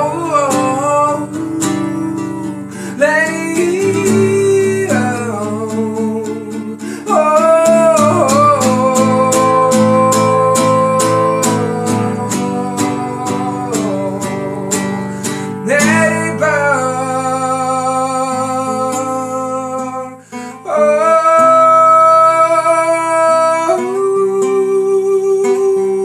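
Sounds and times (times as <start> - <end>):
guitar strumming: 0.0 - 26.0
man singing long notes: 0.0 - 26.0.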